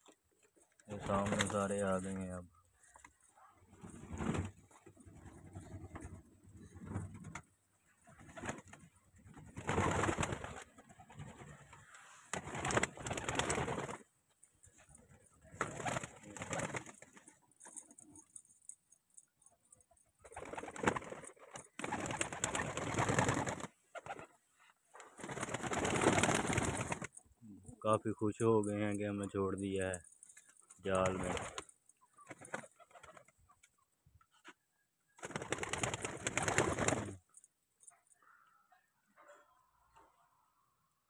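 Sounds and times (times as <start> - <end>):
wings fluttering: 0.0 - 27.7, 28.6 - 38.3.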